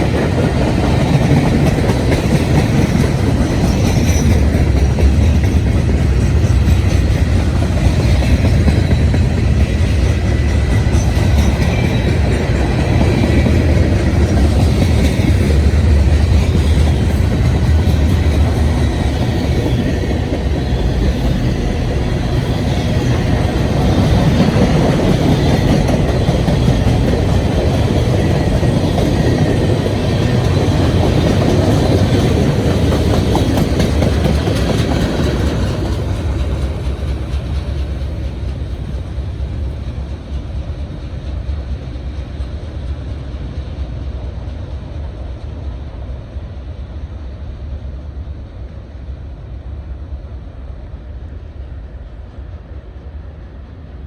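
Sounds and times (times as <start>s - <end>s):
clickety-clack of rail joints: 0.0s - 50.2s
freight train wheels rumbling: 0.0s - 54.0s.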